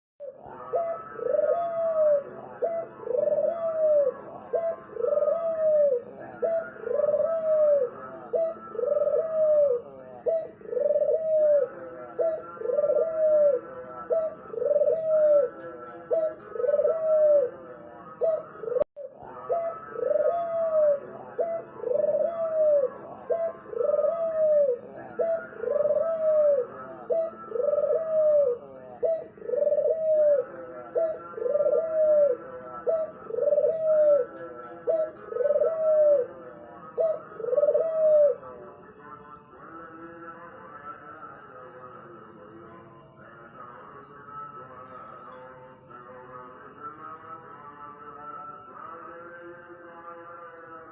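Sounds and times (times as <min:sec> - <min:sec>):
dove cooing: 0:00.2 - 0:38.7, 0:42.4 - 0:43.1, 0:44.7 - 0:45.6, 0:46.9 - 0:47.7.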